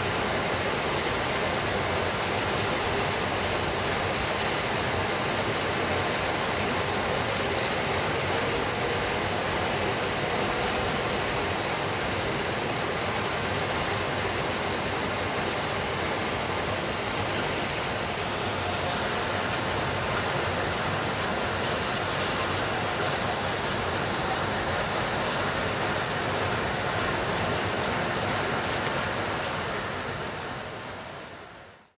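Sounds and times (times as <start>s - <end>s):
steady rainfall: 0.0s - 32.0s.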